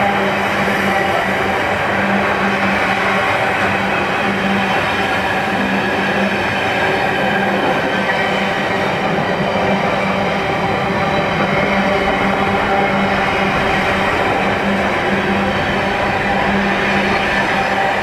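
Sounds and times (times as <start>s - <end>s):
train wheels rumbling and rattling: 0.0s - 18.0s.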